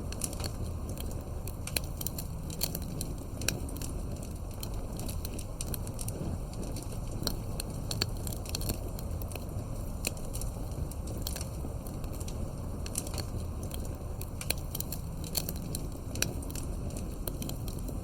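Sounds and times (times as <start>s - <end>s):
fireplace crackling: 0.0s - 18.0s.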